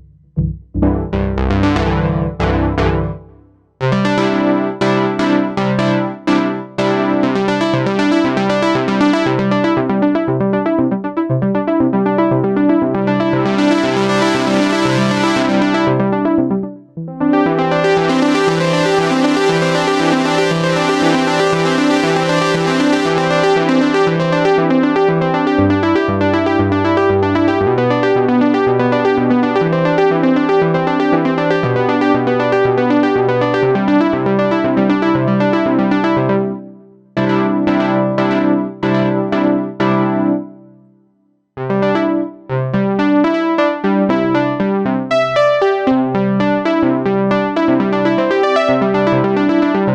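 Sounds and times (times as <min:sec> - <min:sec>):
synthesizer bass notes: 0:00.0 - 0:40.3
synthesizer repeating chords: 0:00.0 - 0:40.6, 0:41.6 - 0:49.9.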